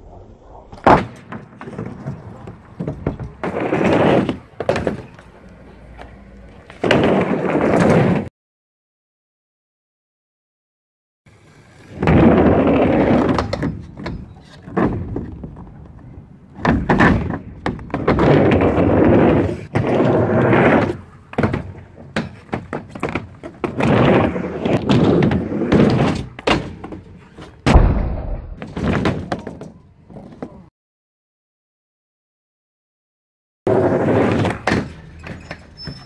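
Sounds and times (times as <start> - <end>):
skateboard wheels rolling on concrete: 0.3 - 8.3, 11.3 - 27.7, 28.6 - 30.7, 33.7 - 36.0.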